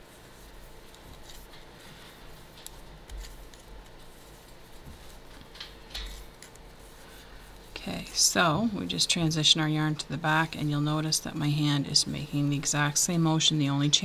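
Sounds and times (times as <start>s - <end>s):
yarn rubbing: 0.0s - 13.9s.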